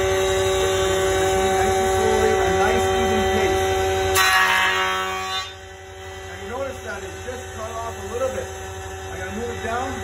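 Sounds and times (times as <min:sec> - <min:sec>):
jointer planer motor hum: 0:00.0 - 0:10.0.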